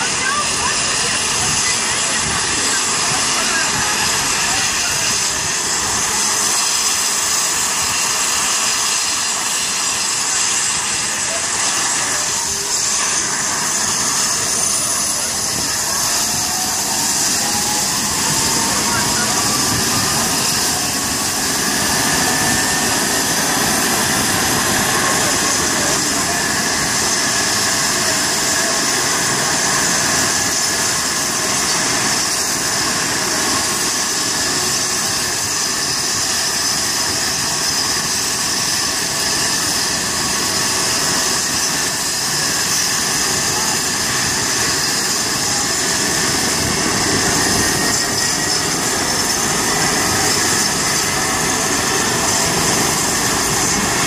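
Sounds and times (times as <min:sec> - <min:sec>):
helicopter turbine whine: 0:00.0 - 0:54.0
rotor rushing: 0:00.0 - 0:54.0.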